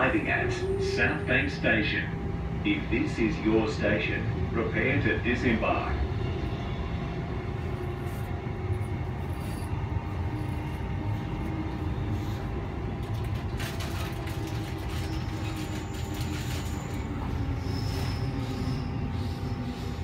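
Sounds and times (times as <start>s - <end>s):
traction equipment hum: 0.0s - 20.0s
train wheel and track rumble: 0.0s - 20.0s.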